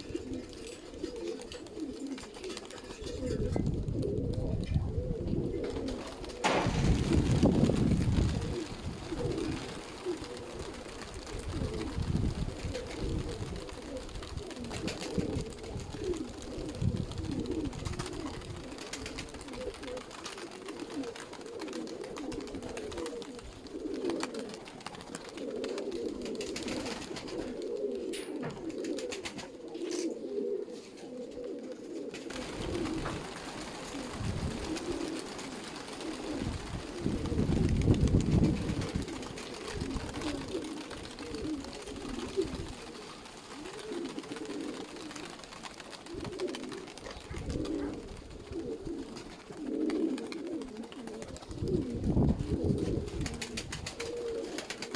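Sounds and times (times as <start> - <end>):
pigeons cooing: 0.0 - 54.9.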